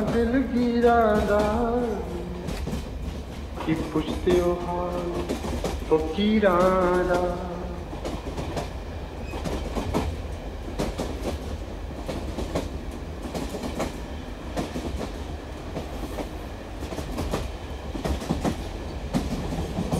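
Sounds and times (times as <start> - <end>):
train rumbling along track: 0.0 - 19.9
wheels clacking over rail joints: 0.0 - 19.9.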